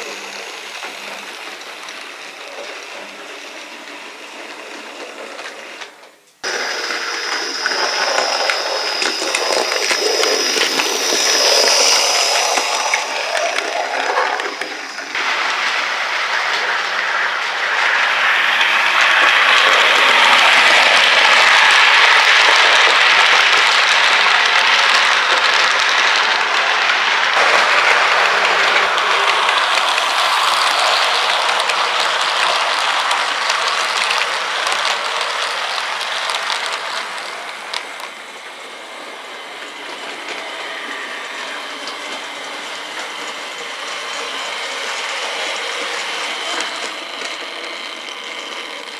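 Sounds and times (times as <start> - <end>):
model train wheels rattling on rails: 0.0 - 48.9.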